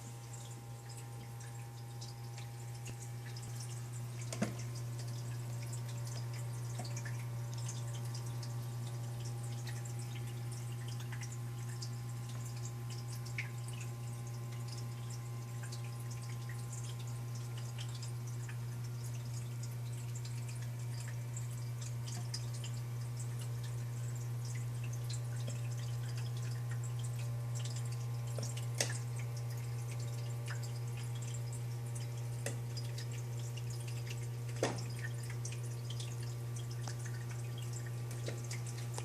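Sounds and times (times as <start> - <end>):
steady low hum: 0.0 - 39.0
water dripping and trickling: 0.0 - 39.0.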